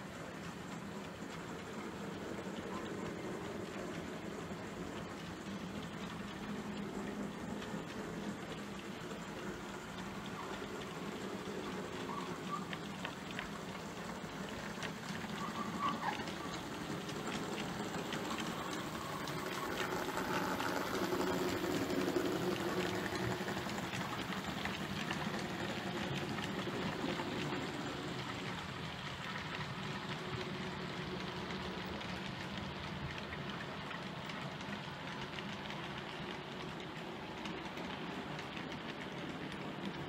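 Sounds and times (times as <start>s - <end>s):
model train rolling on track: 0.0s - 40.0s.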